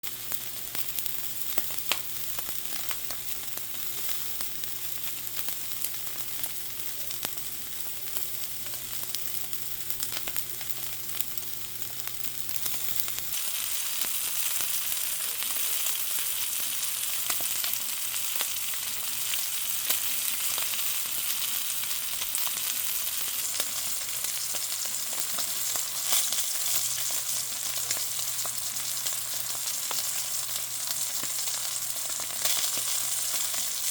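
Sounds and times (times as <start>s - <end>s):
steak sizzling and popping: 0.0s - 33.9s.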